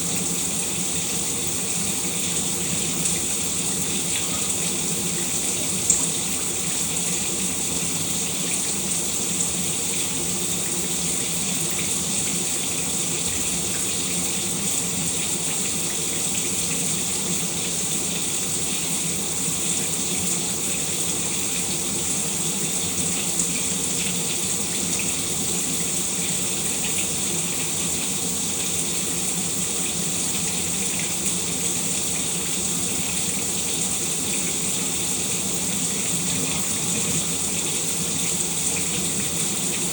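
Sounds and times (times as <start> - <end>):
shower water running: 0.0 - 39.9.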